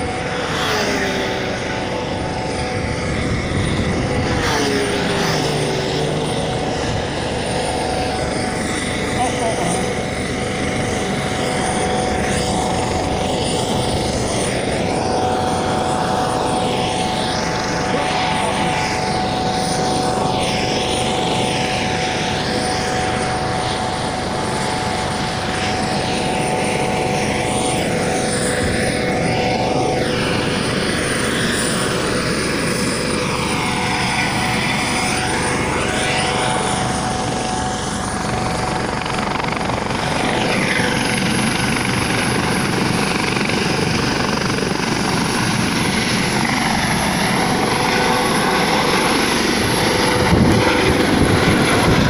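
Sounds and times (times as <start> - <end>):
helicopter rotor and turbine: 0.0 - 52.0.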